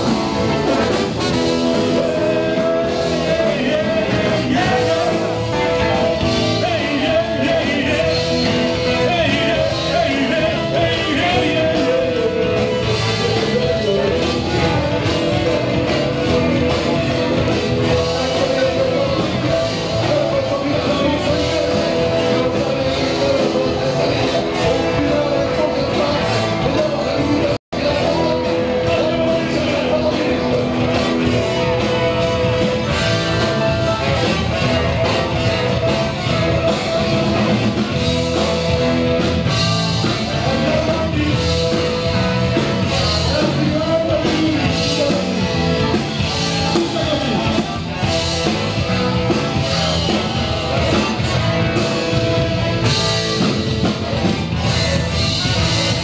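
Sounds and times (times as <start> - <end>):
live rock band with singing: 0.0 - 56.0.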